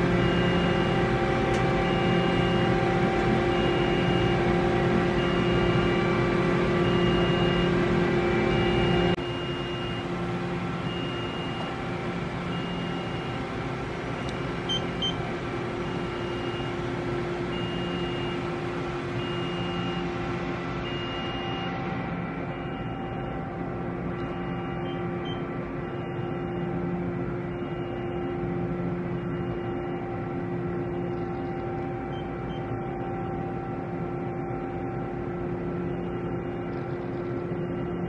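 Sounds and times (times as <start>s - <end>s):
machine electrical hum: 0.0s - 38.0s.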